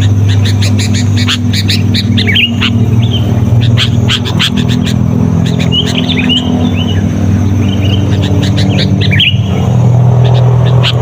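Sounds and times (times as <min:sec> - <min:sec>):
bird chirping and whistling: 0:00.0 - 0:11.0
steady low hum: 0:00.0 - 0:11.0.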